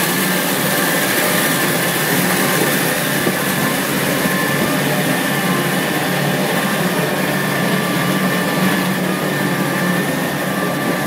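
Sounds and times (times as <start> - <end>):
tractor engine drone with whine: 0.0 - 11.0.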